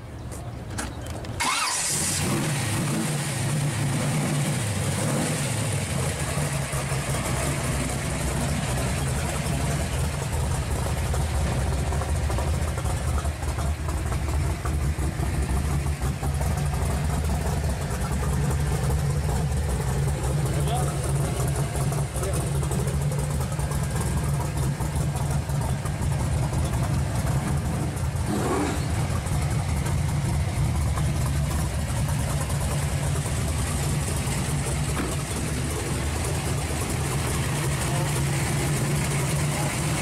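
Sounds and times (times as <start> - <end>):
car engine starting and idling: 0.0 - 40.0.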